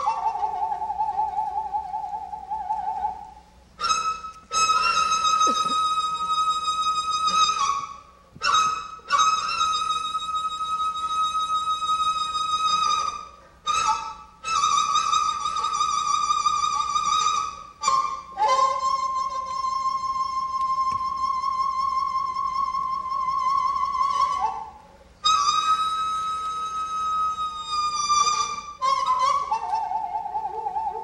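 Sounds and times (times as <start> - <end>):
bamboo flute solo: 0.0 - 31.0.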